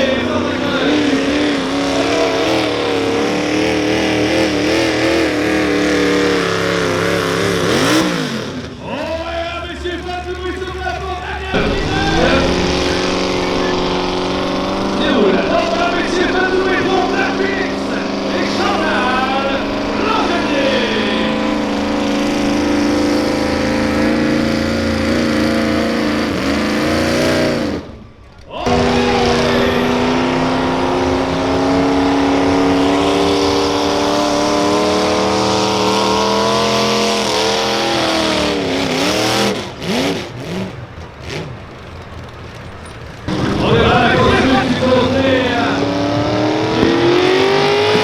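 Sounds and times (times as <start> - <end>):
tractor engine revving high: 0.0 - 48.0.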